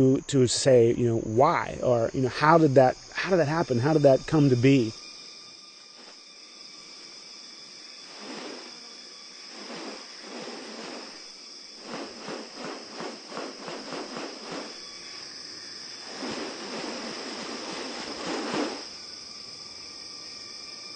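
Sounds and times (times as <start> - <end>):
insect chorus buzzing: 0.0 - 20.9
quick rhythmic insect pulses: 0.0 - 20.9.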